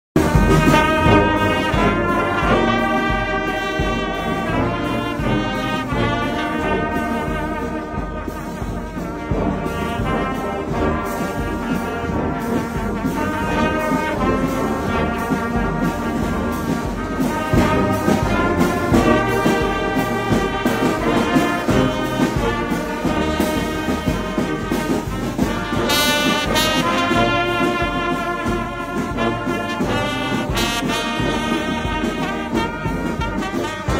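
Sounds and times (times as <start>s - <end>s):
brass band playing slow piece: 0.2s - 33.9s.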